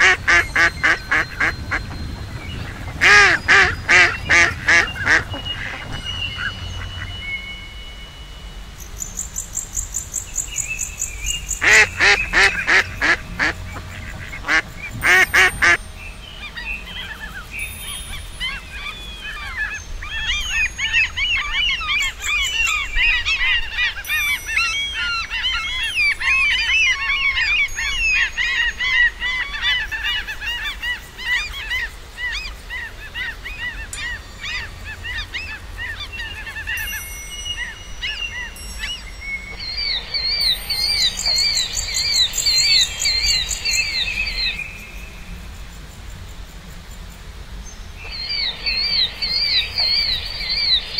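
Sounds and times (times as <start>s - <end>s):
loud bird calls: 0.0s - 45.4s, 48.0s - 50.9s
birds chirping and warbling: 0.0s - 50.9s.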